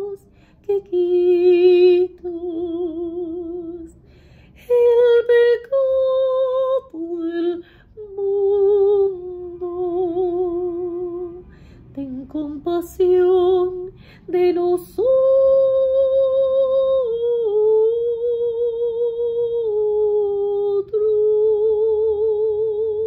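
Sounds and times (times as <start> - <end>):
woman singing operatically: 0.0 - 4.0, 4.6 - 23.0.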